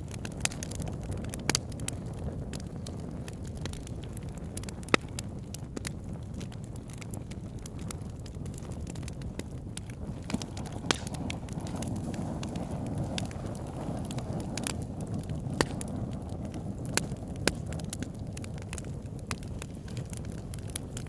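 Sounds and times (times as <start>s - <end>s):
wood fire crackling and popping: 0.0s - 21.0s
fire low rushing: 0.2s - 21.0s.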